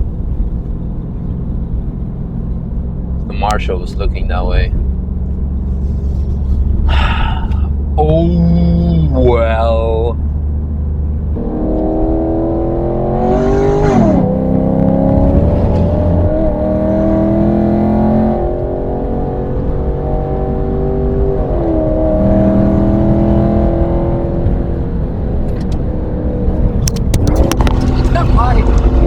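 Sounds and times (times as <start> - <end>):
car engine revving under load: 0.0 - 29.0.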